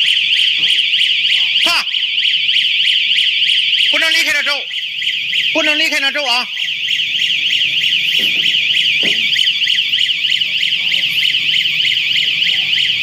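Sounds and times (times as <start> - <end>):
warbling electronic alarm: 0.0 - 13.0.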